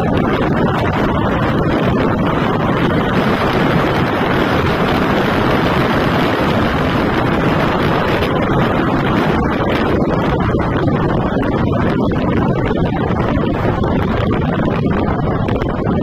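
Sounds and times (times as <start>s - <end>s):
motorcycle running: 0.0s - 16.0s
wind rushing over microphone: 0.0s - 16.0s.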